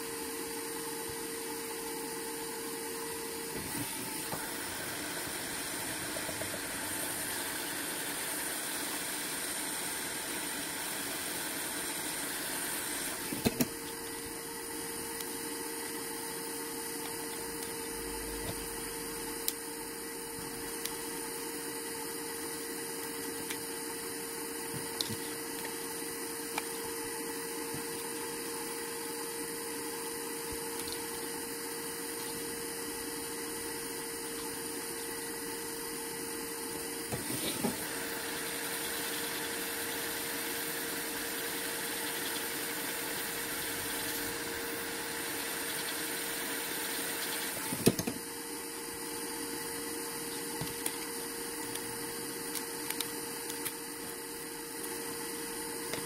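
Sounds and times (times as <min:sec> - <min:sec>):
steady machine hum: 0:00.0 - 0:56.0.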